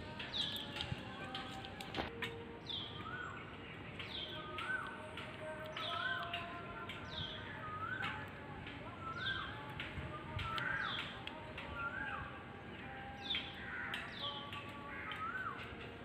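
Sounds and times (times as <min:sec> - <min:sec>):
birds whistling: 0:00.0 - 0:01.6, 0:02.2 - 0:16.0.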